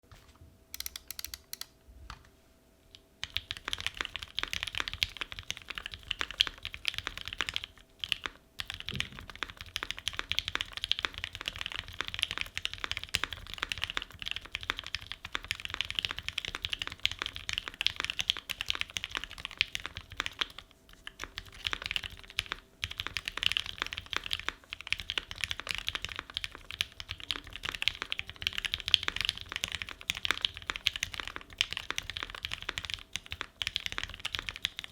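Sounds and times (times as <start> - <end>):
mechanical keyboard typing: 0.8 - 1.7, 3.2 - 34.9.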